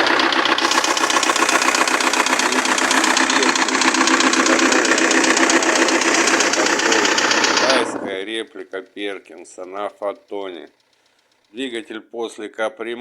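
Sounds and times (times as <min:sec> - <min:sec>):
diesel engine running: 0:00.0 - 0:11.8
engine valve knock: 0:00.0 - 0:11.8.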